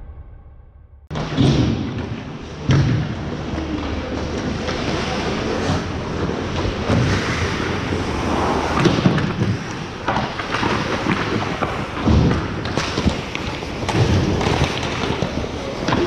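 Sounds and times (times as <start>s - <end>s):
skating rushing noise on ice: 2.1s - 16.0s.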